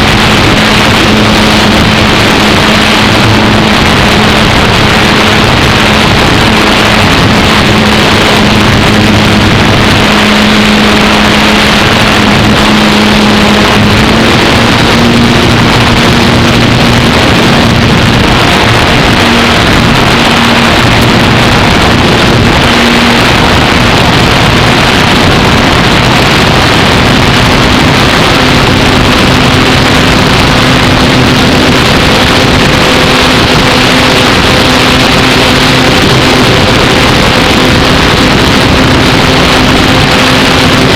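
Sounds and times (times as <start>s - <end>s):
model plane motor drone: 0.0s - 40.9s
rushing wind noise: 0.0s - 40.9s.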